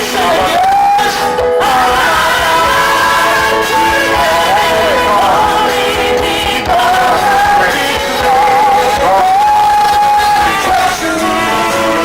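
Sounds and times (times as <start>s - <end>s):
man singing gospel song: 0.0s - 12.0s
musical accompaniment: 0.0s - 12.0s.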